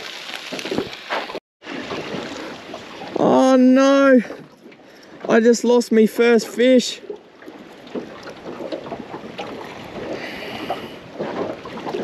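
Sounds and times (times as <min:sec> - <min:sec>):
water lapping around boat: 0:00.0 - 0:12.0
wind: 0:00.0 - 0:12.0.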